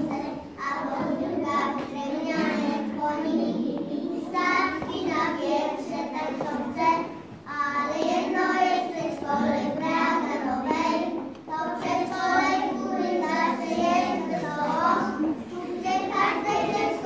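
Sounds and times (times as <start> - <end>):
young children singing in unison: 0.0 - 17.0.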